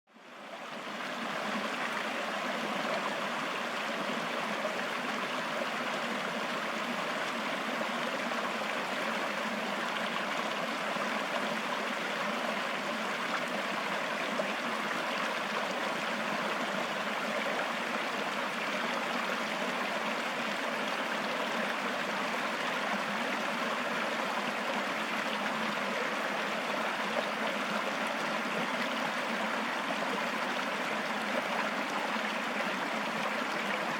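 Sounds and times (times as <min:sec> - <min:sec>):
stream running water: 0:00.1 - 0:33.9.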